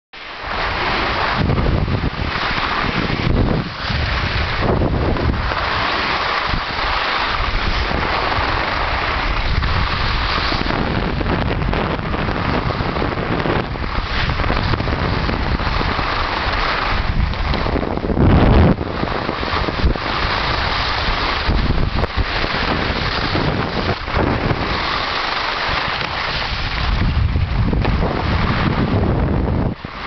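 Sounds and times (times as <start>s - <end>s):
snowboard sliding on snow: 0.2s - 30.0s
wind on microphone: 0.2s - 30.0s.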